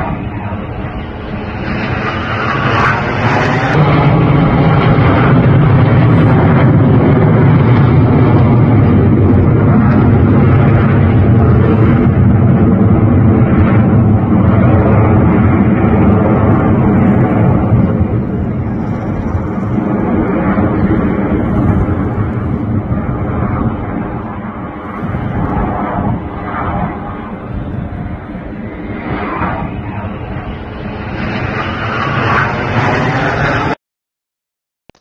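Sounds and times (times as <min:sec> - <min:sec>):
jet engines flying overhead: 0:00.0 - 0:33.8.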